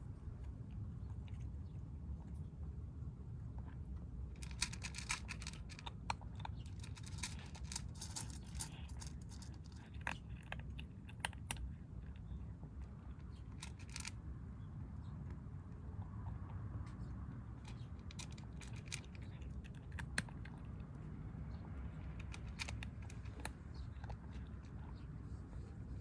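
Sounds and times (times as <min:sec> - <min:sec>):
kittens crunching food: 0:00.0 - 0:26.0.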